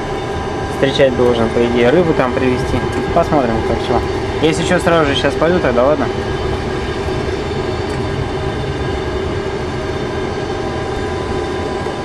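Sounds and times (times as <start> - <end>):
airliner engines idling: 0.0 - 12.0.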